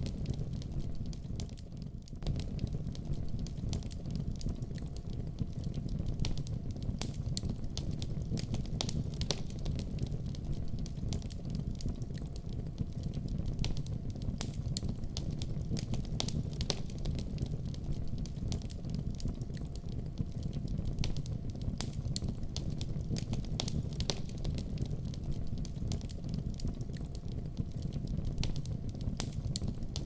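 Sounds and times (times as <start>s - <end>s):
logs crackling and popping: 0.0s - 30.0s.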